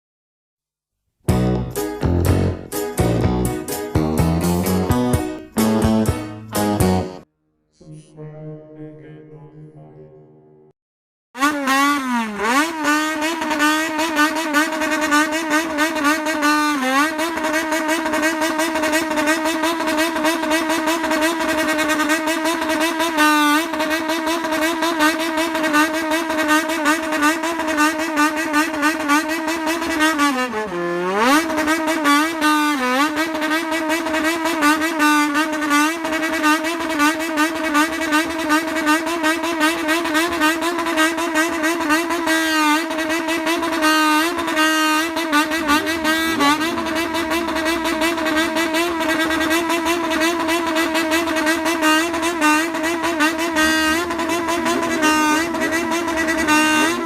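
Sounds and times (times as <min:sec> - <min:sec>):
motorcycle engine revving: 0:11.4 - 0:57.0.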